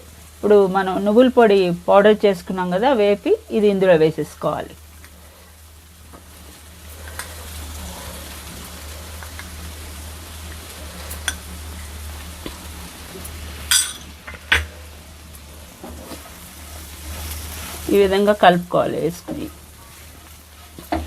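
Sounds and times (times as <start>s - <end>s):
faint sizzle: 0.0s - 21.0s
steady low hum: 0.0s - 21.0s.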